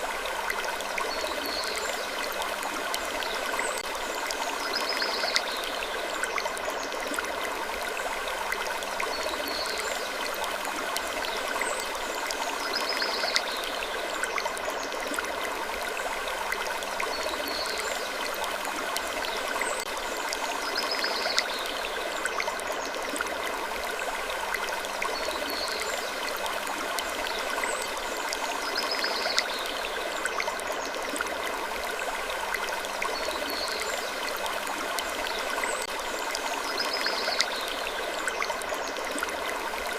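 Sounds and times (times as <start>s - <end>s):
stream-like rushing: 0.0s - 39.9s.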